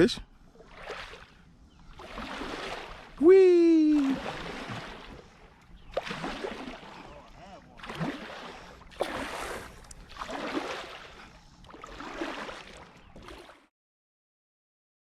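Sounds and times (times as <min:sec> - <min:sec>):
paddle strokes splashing water: 0:00.5 - 0:13.7.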